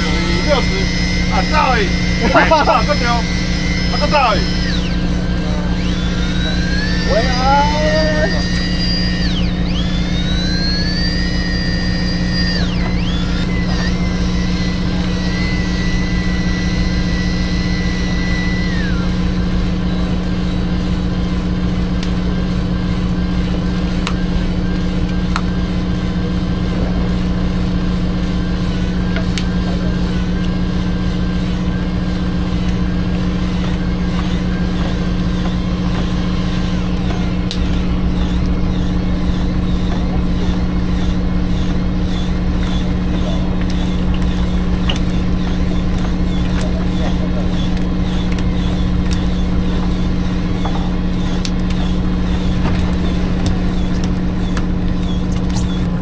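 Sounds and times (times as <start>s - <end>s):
boat engine humming: 0.0s - 56.0s
high whine: 0.0s - 56.0s.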